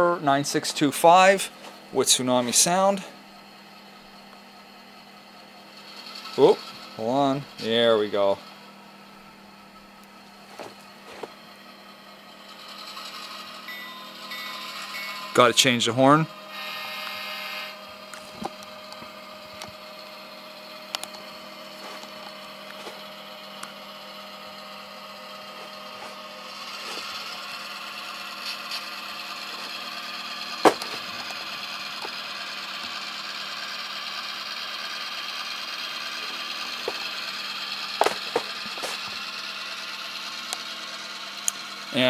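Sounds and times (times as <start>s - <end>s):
diesel engine sound through small speaker: 0.0s - 42.0s.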